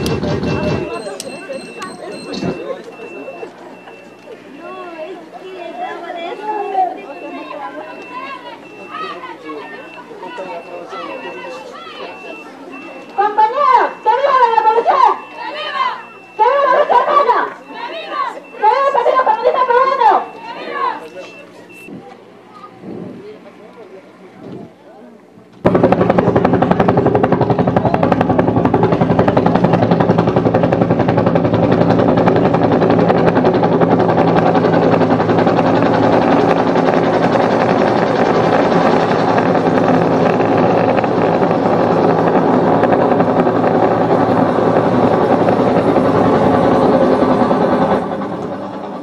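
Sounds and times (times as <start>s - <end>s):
helicopter rotor chopping: 0.0s - 24.8s, 25.4s - 49.0s.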